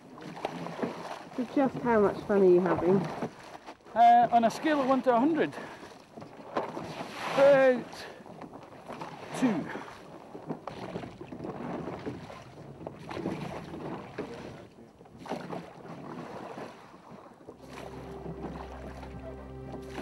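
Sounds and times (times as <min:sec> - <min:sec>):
water slapping against hull: 0:00.0 - 0:20.0.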